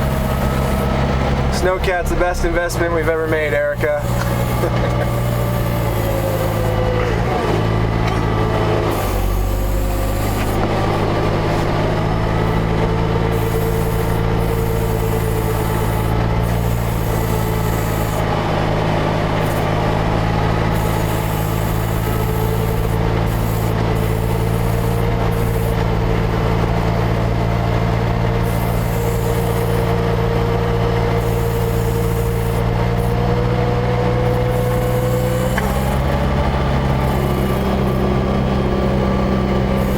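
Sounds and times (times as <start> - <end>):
snow vehicle engine running: 0.0 - 39.9.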